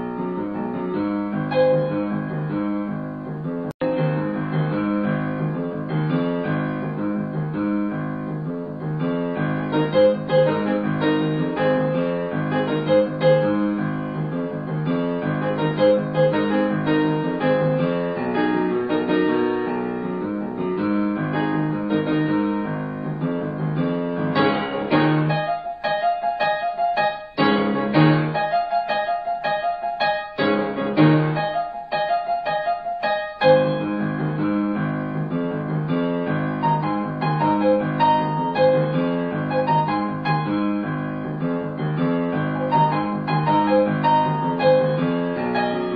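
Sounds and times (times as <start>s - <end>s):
background piano music: 0.0s - 45.9s.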